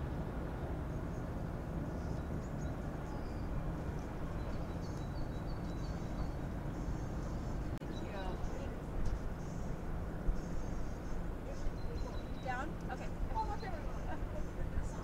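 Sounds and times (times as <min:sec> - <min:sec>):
distant traffic and engines rumble: 0:00.0 - 0:15.0
small birds chirping: 0:00.9 - 0:15.0.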